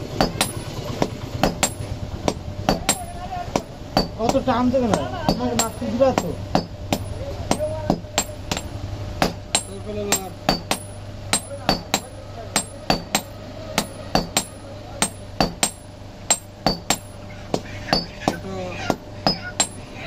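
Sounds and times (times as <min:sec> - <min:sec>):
hammer striking metal on anvil: 0:00.0 - 0:20.0.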